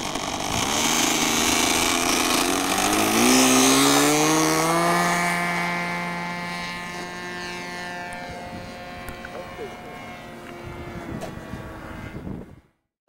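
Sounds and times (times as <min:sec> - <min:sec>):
model airplane engine buzzing: 0:00.0 - 0:12.9.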